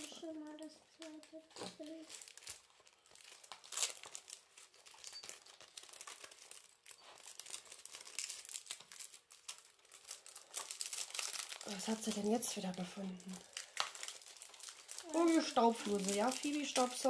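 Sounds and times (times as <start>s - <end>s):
paper crinkling and rustling: 0.0s - 17.0s.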